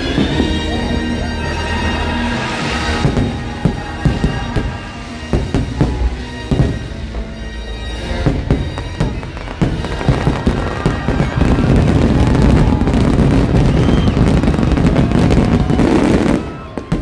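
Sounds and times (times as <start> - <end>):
fireworks bangs and barrage: 0.0 - 17.0
show music: 0.0 - 17.0.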